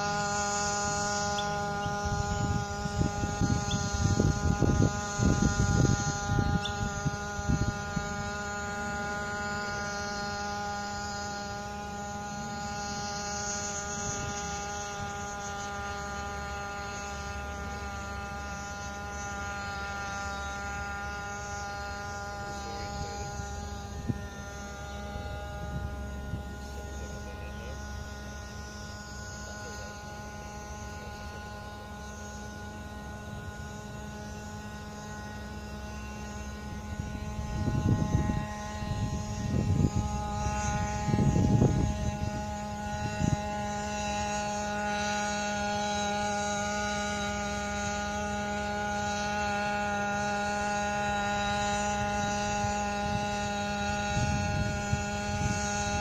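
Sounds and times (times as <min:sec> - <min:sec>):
drone engine and propellers humming: 0:00.0 - 0:56.0.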